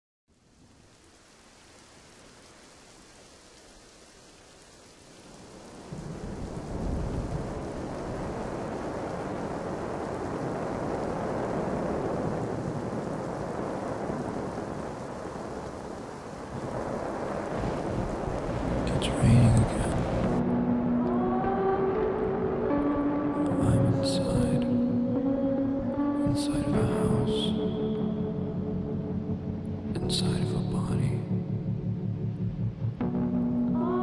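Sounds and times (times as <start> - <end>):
steady rain: 0.3 - 34.0
low rumble of thunder: 5.6 - 21.4, 22.0 - 34.0.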